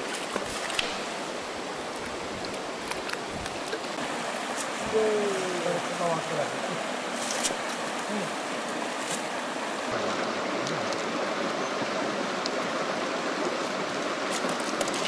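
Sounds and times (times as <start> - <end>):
rocky river flowing: 0.0 - 15.0.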